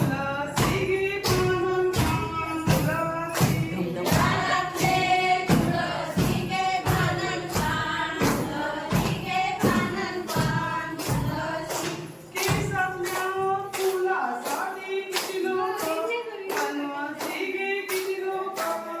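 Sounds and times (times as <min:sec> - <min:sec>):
group singing folk song: 0:00.0 - 0:19.0
sharp rhythmic beats: 0:00.0 - 0:19.0.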